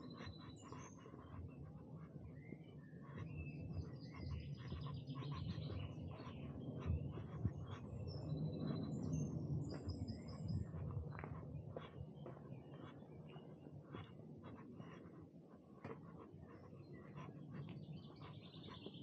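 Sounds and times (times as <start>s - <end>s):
songbirds singing and chirping: 0.0s - 19.0s.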